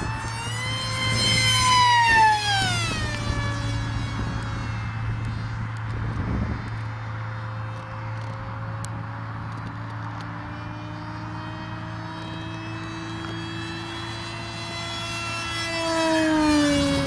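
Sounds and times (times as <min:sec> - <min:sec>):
distant rc jet motor whine: 0:00.0 - 0:17.0.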